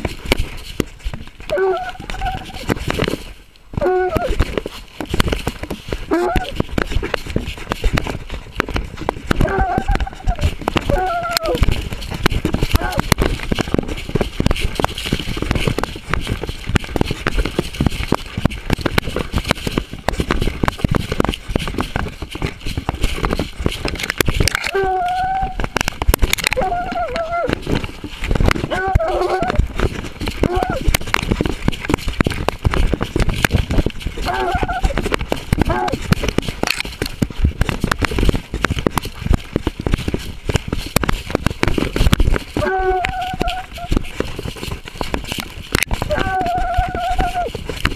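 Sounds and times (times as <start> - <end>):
camera rubbing: 0.0 - 47.9
dog paws knocking and crackling: 0.0 - 47.9
twigs snapping: 0.0 - 47.9.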